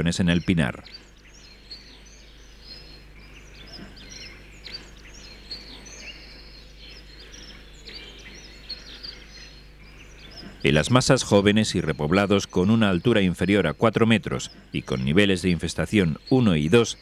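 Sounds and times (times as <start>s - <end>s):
faint low hum: 0.0s - 17.0s
small birds chirping: 0.0s - 17.0s.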